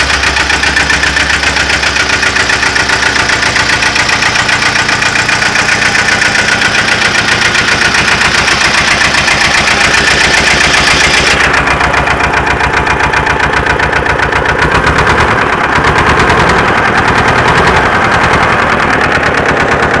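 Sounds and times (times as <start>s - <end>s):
diesel tractor engine idling: 0.0s - 20.0s.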